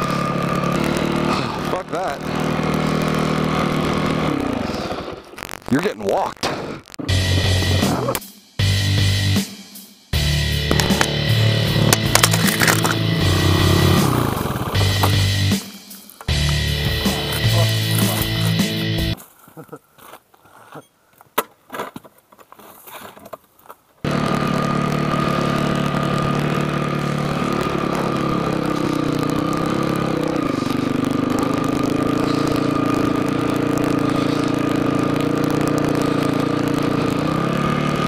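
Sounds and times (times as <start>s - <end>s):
dirt bike engine running: 0.0s - 9.5s, 10.2s - 19.2s, 24.0s - 38.0s.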